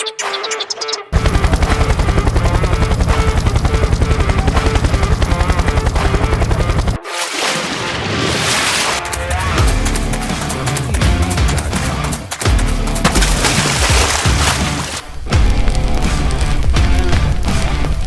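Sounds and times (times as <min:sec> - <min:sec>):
soundtrack music with throbbing pulse: 0:00.0 - 0:07.5, 0:08.9 - 0:18.0.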